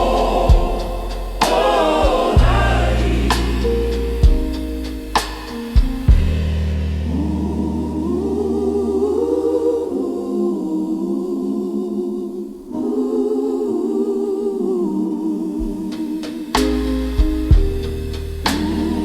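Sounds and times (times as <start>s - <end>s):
choir singing held chords: 0.0s - 19.0s.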